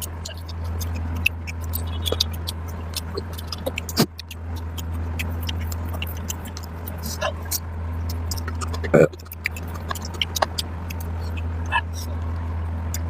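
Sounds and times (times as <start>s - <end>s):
low hum: 0.0s - 13.0s
wet chewing and lip-smacking: 0.0s - 13.0s.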